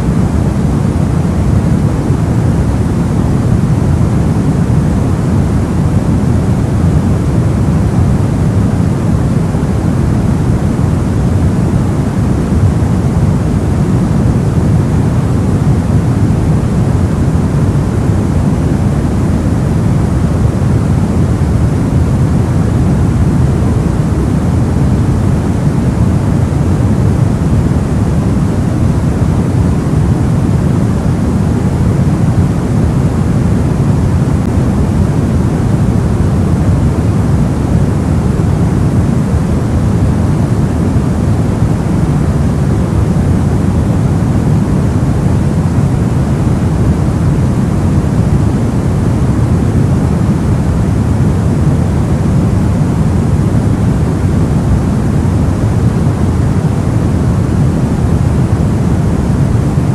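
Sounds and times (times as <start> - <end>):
low white noise rumble: 0.0 - 59.9.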